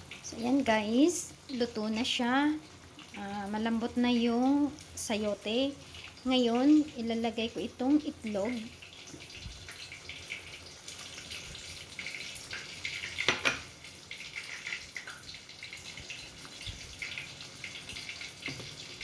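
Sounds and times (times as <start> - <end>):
sauce simmering in a frying pan: 0.0 - 19.0.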